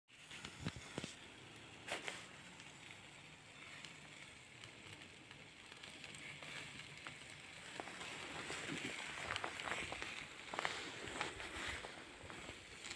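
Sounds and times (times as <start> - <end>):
meat sizzling over charcoal: 0.1 - 12.9
small crackles: 0.1 - 12.9.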